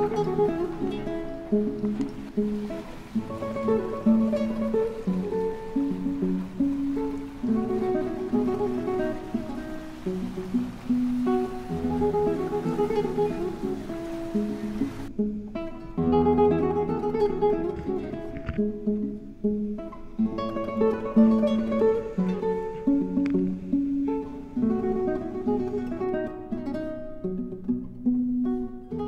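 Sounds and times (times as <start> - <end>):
solo acoustic guitar piece: 0.0 - 29.0.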